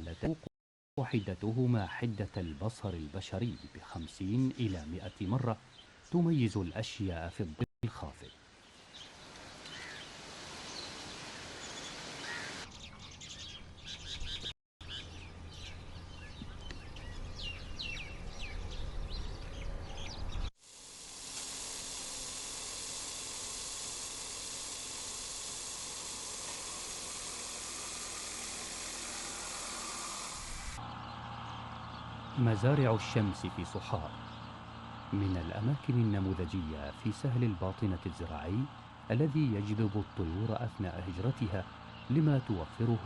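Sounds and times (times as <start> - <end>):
birds chirping: 1.0 - 20.5, 28.0 - 43.0
outdoor background hiss: 1.0 - 37.6.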